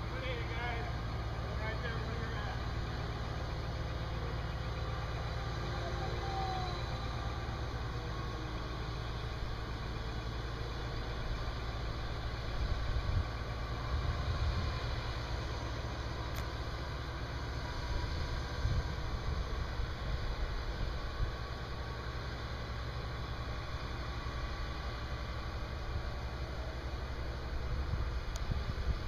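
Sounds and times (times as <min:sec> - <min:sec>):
crane diesel engine rumbling: 0:00.0 - 0:29.0.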